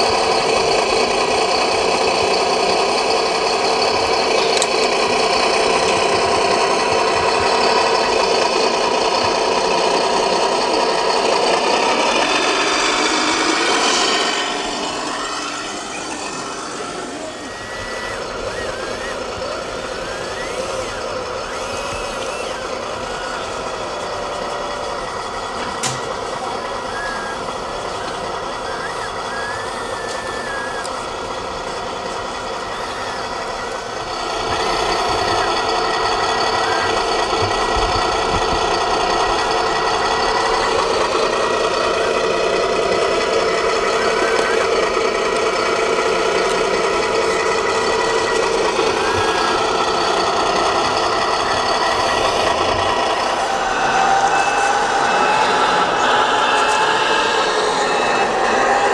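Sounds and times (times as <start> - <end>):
excavator machine whine and hum: 0.0 - 58.9.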